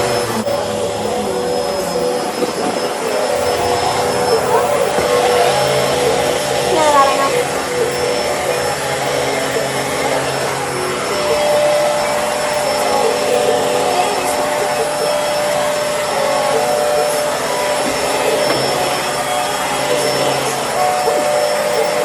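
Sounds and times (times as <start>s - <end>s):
vacuum cleaner motor humming: 0.0s - 22.0s.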